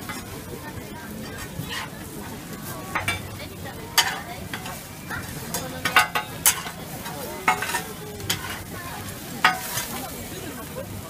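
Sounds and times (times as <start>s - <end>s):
metal spatula scraping hot plate: 0.0s - 0.5s, 1.2s - 3.4s, 4.0s - 10.2s
food sizzling on griddle: 0.0s - 11.0s.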